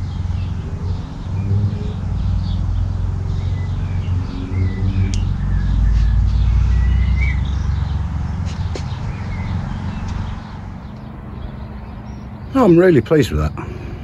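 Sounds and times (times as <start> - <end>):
birds chirping: 0.0 - 14.0
vehicle engine rumble: 0.0 - 14.0.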